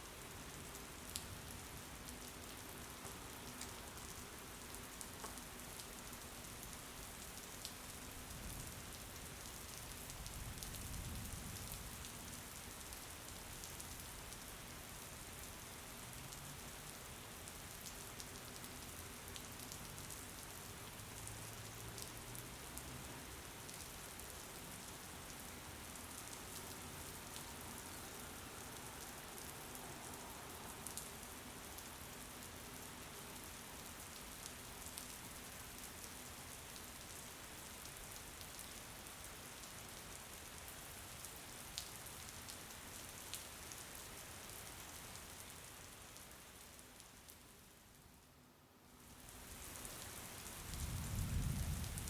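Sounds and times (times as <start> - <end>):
steady rain: 0.0 - 52.0.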